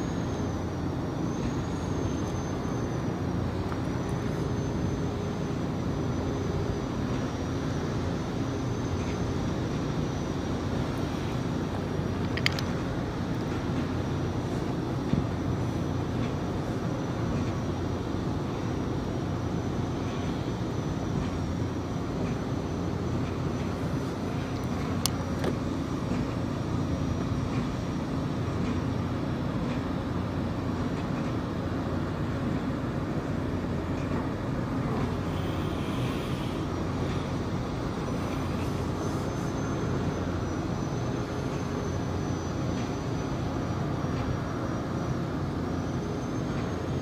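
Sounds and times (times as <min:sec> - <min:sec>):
boat engine drone: 0:00.0 - 0:47.0
faint high whine: 0:00.0 - 0:47.0.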